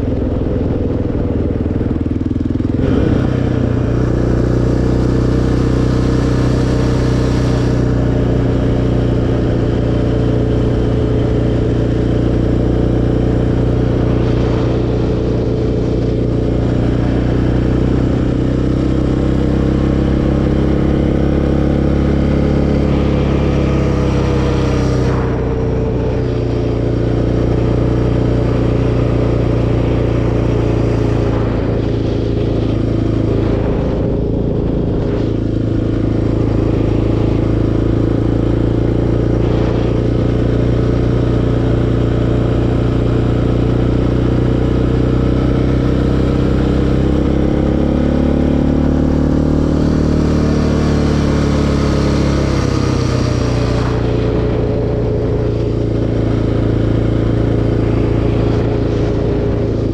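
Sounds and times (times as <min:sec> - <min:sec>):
quad engine running: 0:00.0 - 0:59.9.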